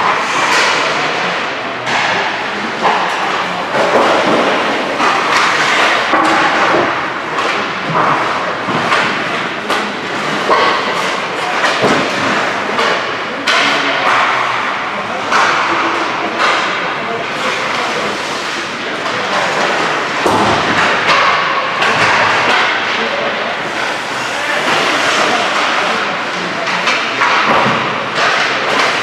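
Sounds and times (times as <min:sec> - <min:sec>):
sticks and pucks knocking: 0:00.0 - 0:29.0.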